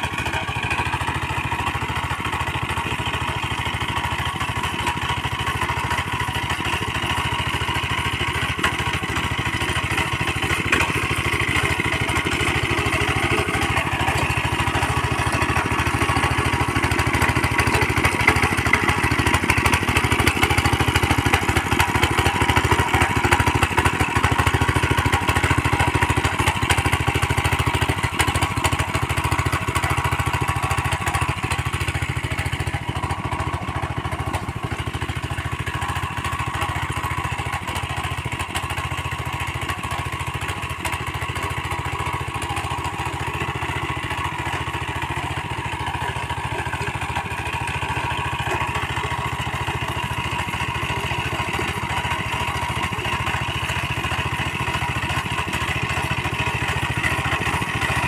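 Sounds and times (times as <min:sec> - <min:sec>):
tiller engine running: 0:00.0 - 0:58.0
tines churning soil: 0:00.0 - 0:58.0.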